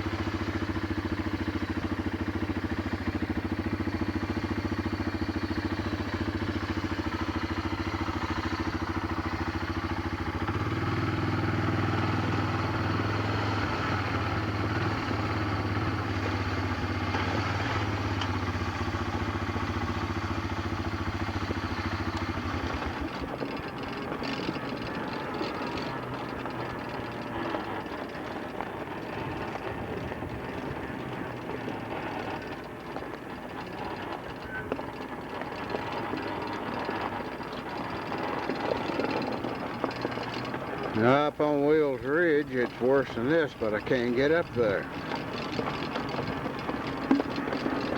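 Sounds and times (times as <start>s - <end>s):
road noise: 0.0s - 47.9s
vehicle engine running: 0.0s - 47.9s.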